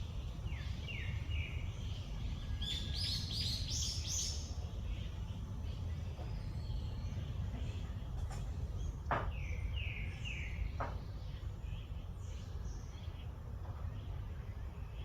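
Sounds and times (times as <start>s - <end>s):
birds chirping: 0.0s - 15.0s
low rumble of background noise: 0.0s - 15.0s.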